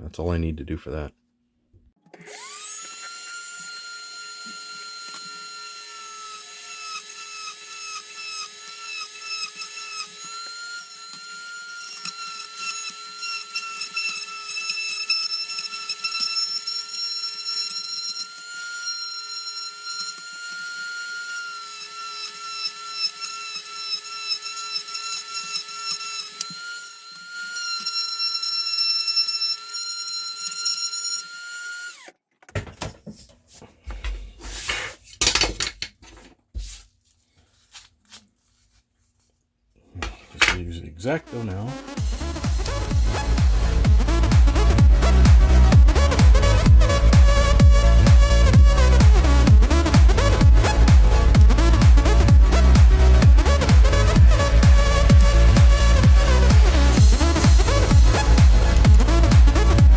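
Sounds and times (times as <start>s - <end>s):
rotary tool whining: 2.1s - 32.2s, 42.0s - 59.9s.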